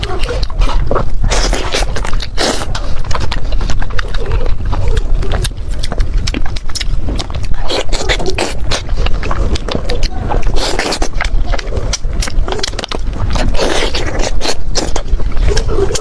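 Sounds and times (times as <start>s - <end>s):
bones crunching: 0.0s - 16.0s
wet chewing and slurping: 0.0s - 16.0s.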